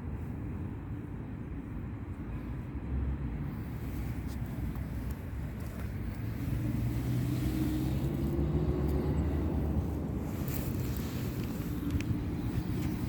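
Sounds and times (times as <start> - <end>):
motor vehicle engine rumble: 0.0 - 13.0.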